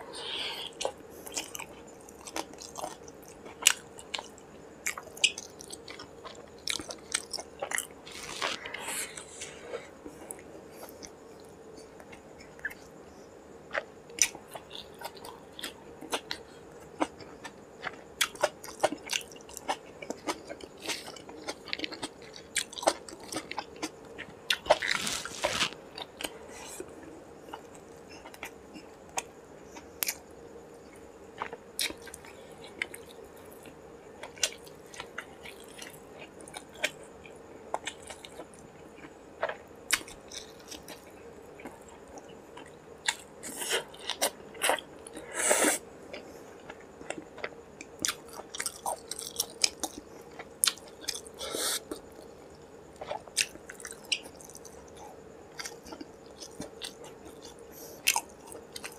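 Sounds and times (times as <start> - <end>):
person chewing food: 0.2 - 13.0, 13.6 - 30.2, 30.8 - 58.9.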